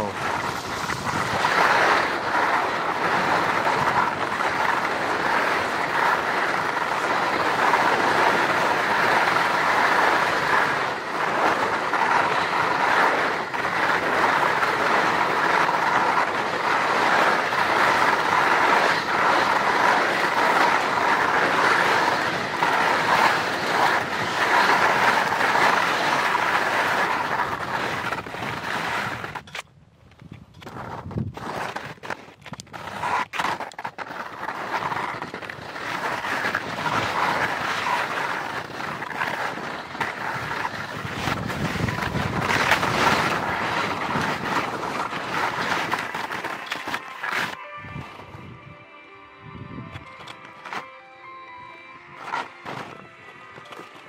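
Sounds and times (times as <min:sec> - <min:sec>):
skis scraping over icy snow: 0:00.0 - 0:29.6, 0:30.6 - 0:48.4, 0:50.0 - 0:50.9, 0:52.1 - 0:54.0.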